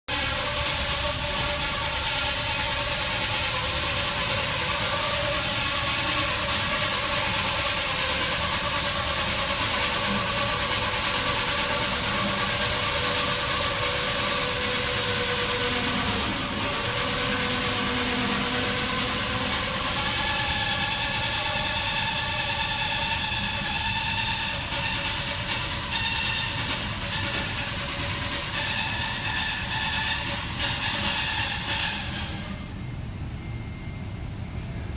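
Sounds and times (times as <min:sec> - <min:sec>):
machine hiss and whining tones: 0:00.1 - 0:34.2.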